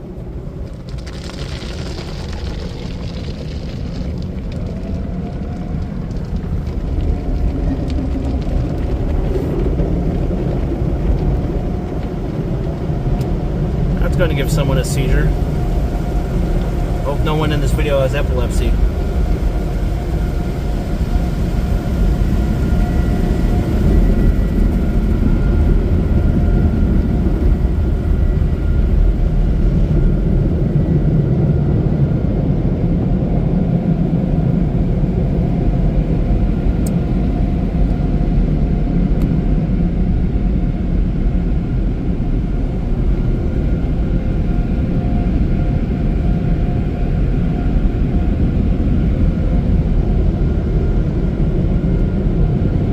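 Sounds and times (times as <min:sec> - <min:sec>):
car wash equipment roaring: 0:00.0 - 0:52.9.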